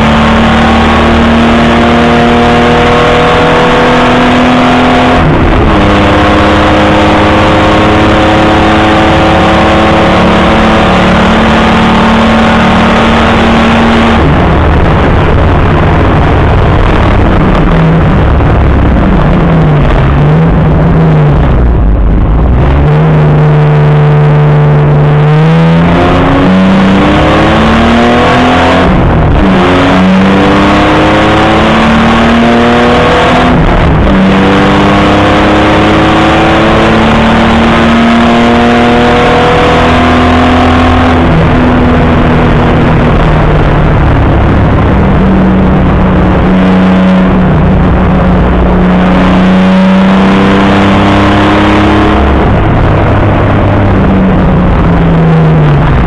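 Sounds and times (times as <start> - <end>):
racing car engine accelerating: 0.0 - 56.0.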